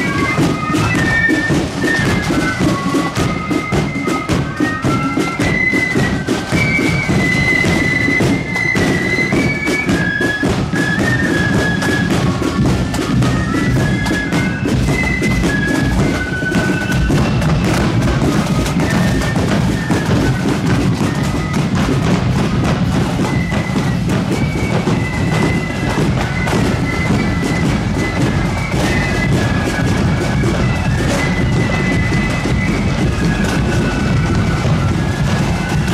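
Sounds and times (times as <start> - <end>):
bass drum and snare drumming: 0.0 - 35.9
flutes playing melody: 0.0 - 35.9.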